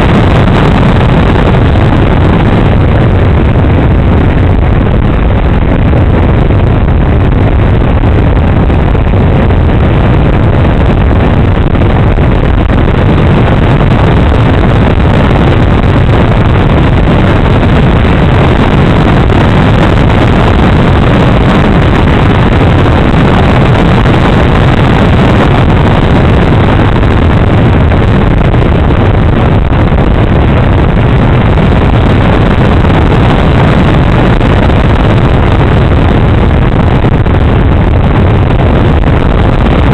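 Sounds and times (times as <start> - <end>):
rush of air: 0.0 - 39.9.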